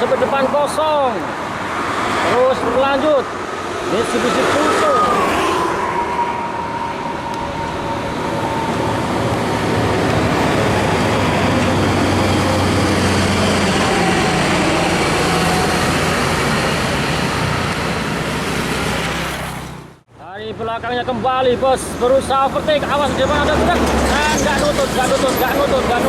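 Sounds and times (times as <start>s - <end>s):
tyre and road noise: 0.0s - 20.1s, 21.5s - 26.0s
diesel trucks passing: 0.0s - 26.0s.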